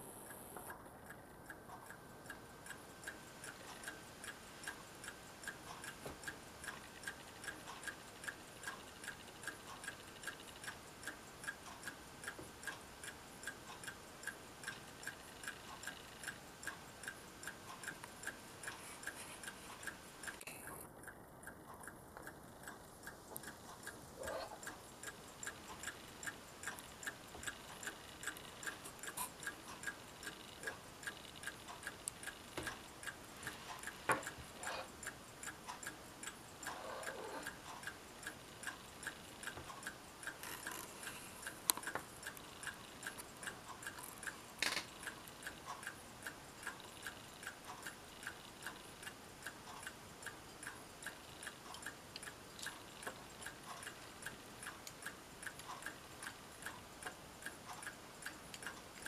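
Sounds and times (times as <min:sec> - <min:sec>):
pocket watches ticking: 0:00.2 - 0:59.0.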